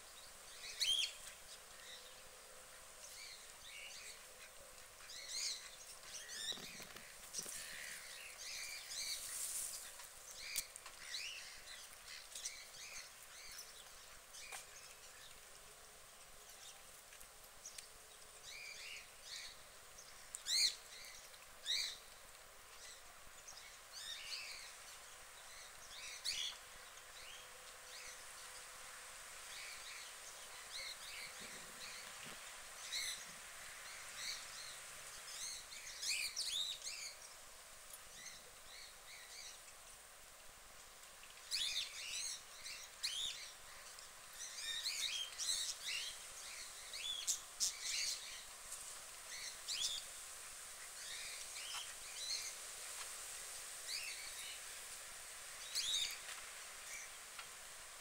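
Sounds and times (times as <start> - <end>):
small birds chirping and singing: 0.0 - 58.0
steady background hiss: 0.0 - 58.0.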